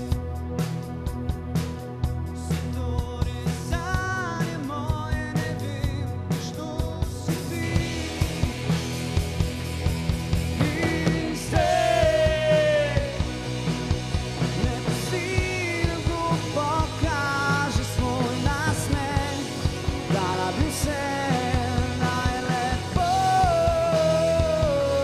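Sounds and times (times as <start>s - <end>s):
live rock band playing: 0.0s - 25.0s
sliding lead melody: 0.0s - 25.0s.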